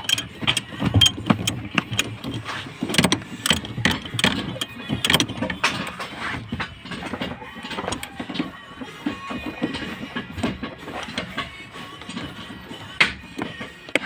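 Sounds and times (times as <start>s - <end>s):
tools and metal parts clanking: 0.0s - 14.0s.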